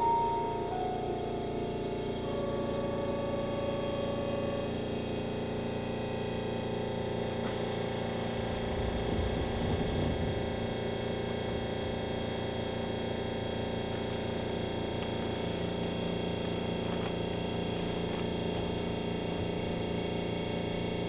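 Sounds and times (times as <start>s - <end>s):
steady electric train hum: 0.0s - 21.0s.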